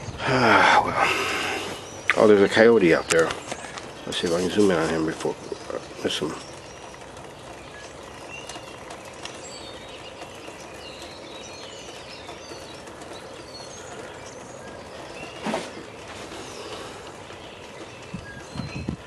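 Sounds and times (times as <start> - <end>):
outdoor background hiss: 0.0 - 19.0
songbirds chirping: 0.0 - 19.0.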